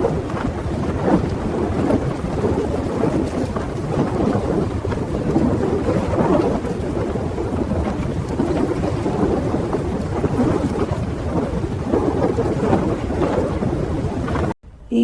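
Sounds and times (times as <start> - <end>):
rumbling storm noise: 0.0 - 15.0.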